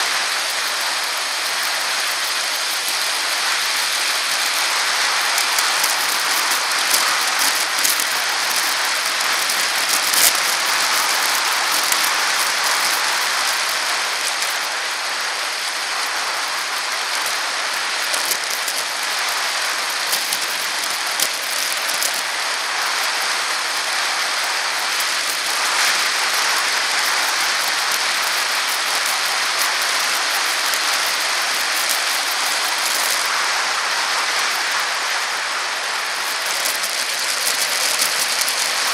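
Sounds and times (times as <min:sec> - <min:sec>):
faint small clicks and rattles: 0:00.0 - 0:33.4, 0:36.0 - 0:38.9
road noise: 0:00.0 - 0:38.9
wind hiss: 0:00.0 - 0:38.9.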